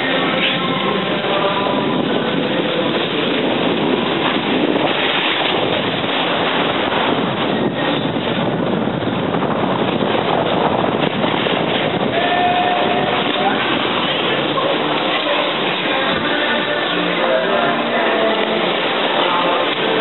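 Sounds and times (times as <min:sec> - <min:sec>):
air rushing over microphone: 0:00.0 - 0:20.0.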